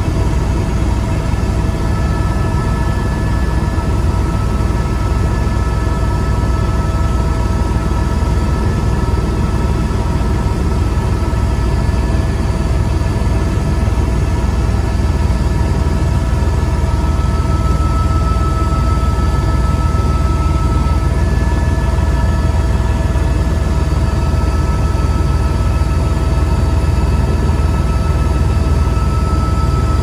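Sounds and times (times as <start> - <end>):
helicopter cabin rumble: 0.0 - 30.0
steady whining tones: 0.0 - 30.0.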